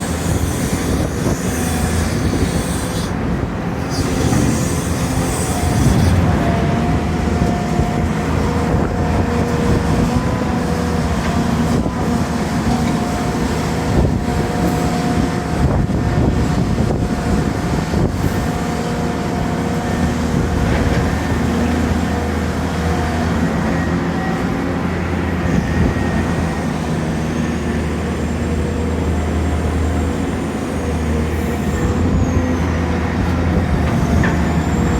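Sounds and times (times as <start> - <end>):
excavator diesel engines: 0.0 - 34.9.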